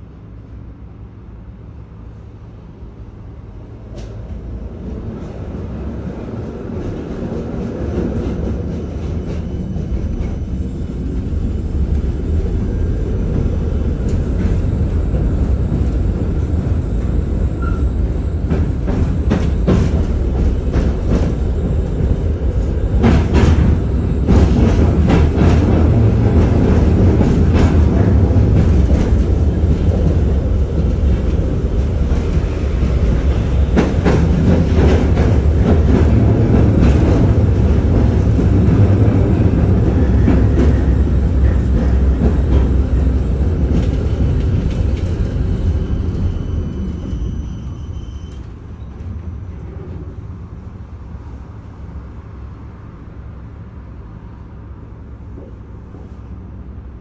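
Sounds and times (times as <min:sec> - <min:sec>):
tram rumbling on track: 0:00.0 - 0:57.0.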